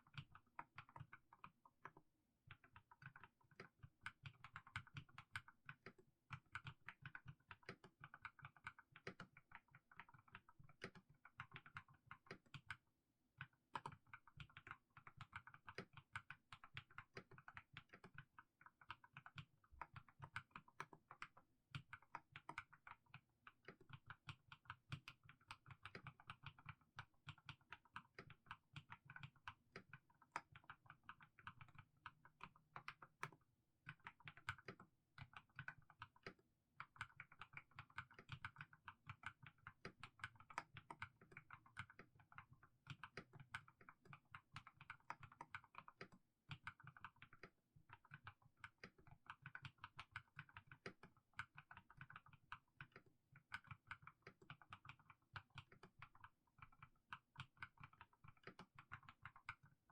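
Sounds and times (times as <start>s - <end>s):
soft keyboard keystroke clacks: 0.0s - 12.8s, 13.4s - 59.9s.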